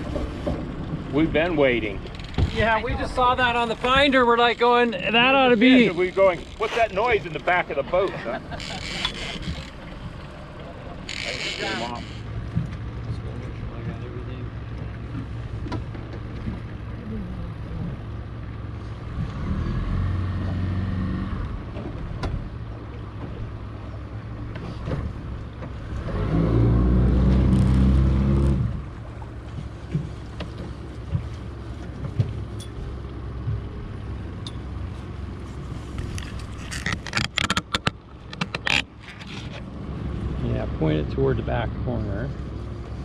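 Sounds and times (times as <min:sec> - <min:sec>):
boat motor running: 0:00.0 - 0:43.0.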